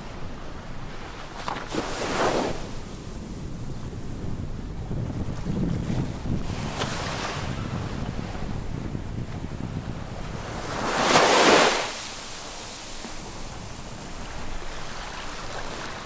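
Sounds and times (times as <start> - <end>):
wind buffeting microphone: 0.0 - 16.0
small waves washing onto shore: 0.1 - 16.0.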